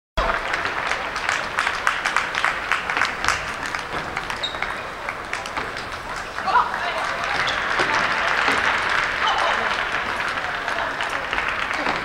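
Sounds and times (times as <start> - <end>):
crowd hubbub: 0.2 - 12.0
scattered applause: 0.2 - 12.0.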